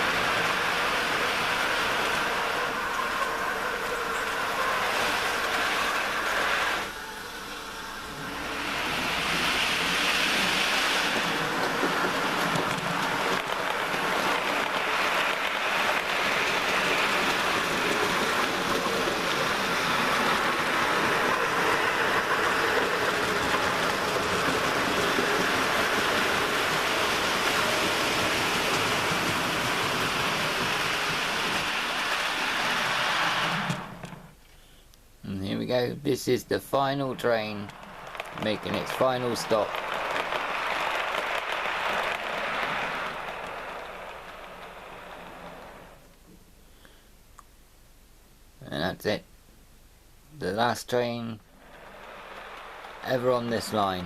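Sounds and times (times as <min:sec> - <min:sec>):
model train motor whirring: 0:00.0 - 0:34.4, 0:36.8 - 0:46.1
wheels rolling over track: 0:00.0 - 0:34.4, 0:35.4 - 0:46.5, 0:50.4 - 0:54.0.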